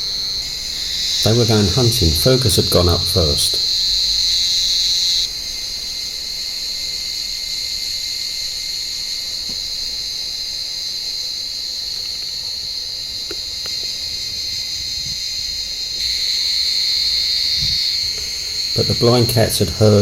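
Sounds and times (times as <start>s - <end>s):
cicadas buzzing: 0.0s - 20.0s.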